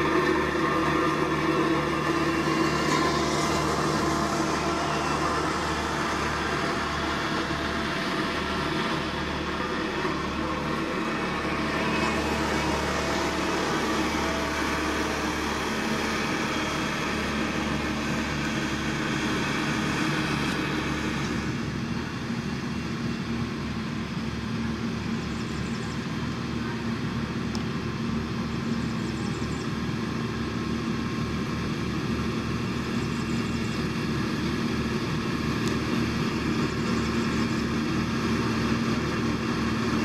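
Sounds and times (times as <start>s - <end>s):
diesel engine of heavy machinery: 0.0s - 40.0s.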